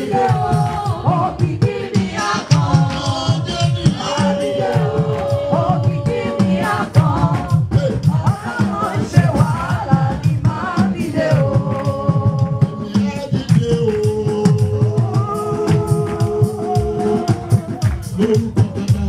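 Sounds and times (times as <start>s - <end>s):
band with drums and bass: 0.0s - 19.0s
gospel singing: 0.0s - 19.0s.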